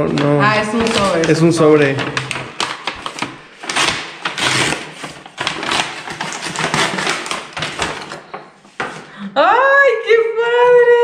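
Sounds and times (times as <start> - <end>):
wrapping paper tearing and rustling: 0.0 - 9.1.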